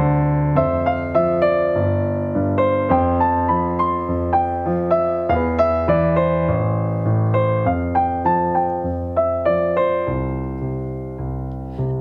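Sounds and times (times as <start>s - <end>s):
slow piano chords and melody: 0.0s - 12.0s.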